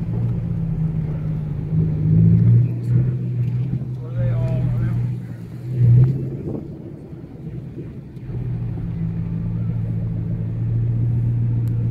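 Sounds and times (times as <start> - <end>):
car engine droning from inside: 0.0 - 11.9.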